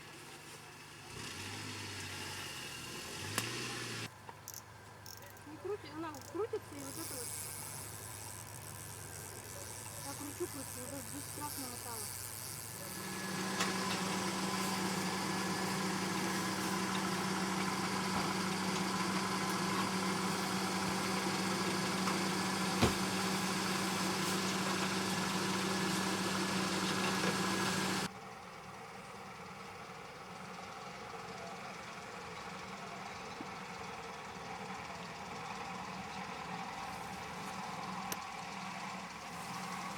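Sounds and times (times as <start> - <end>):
vehicle engine running: 5.2 - 39.9.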